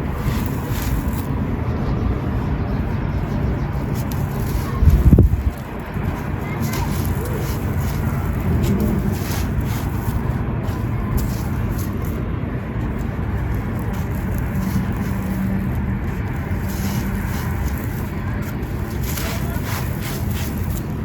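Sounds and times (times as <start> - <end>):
sand-cement crunching and crumbling: 0.0 - 1.4, 3.8 - 21.0.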